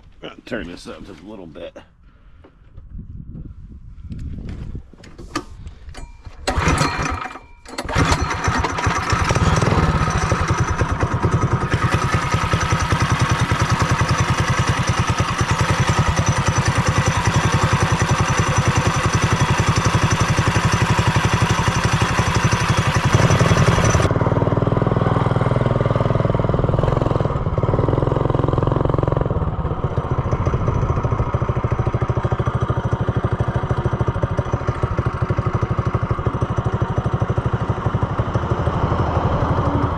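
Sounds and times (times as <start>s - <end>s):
small engine running loud: 6.5s - 39.9s.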